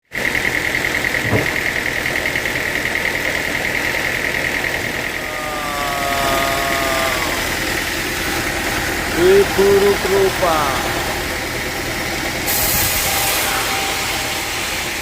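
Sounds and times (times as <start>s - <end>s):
sawmill machinery engine humming: 0.2s - 15.0s.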